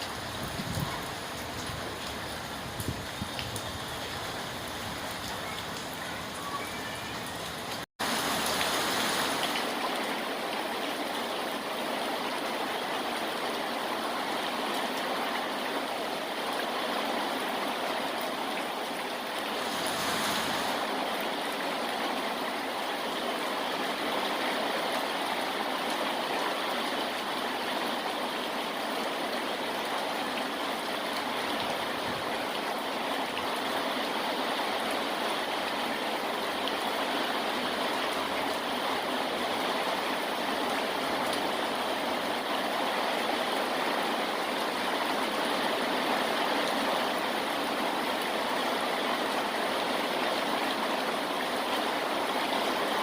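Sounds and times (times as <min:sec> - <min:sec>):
heavy rain rushing: 0:00.0 - 0:53.0.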